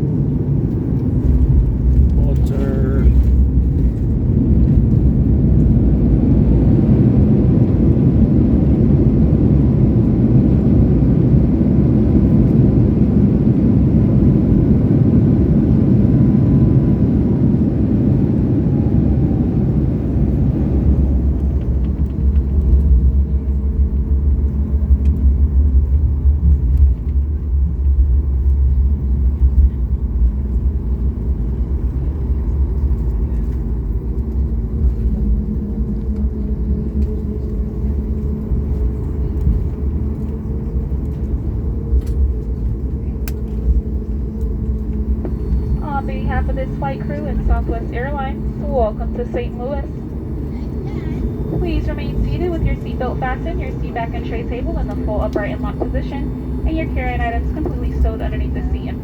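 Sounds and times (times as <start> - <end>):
engines and wheels rumbling: 0.0 - 59.0.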